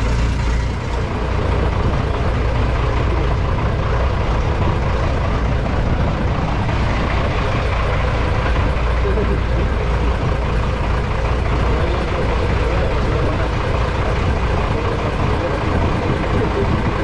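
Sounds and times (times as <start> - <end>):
boat engine humming: 0.0 - 17.0
constant rushing noise: 0.0 - 17.0.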